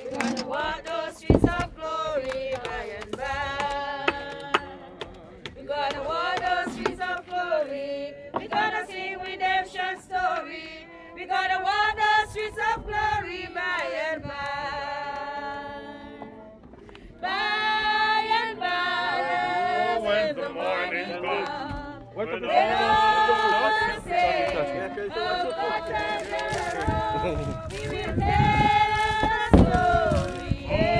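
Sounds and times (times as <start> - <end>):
congregation singing a hymn: 0.0 - 30.9.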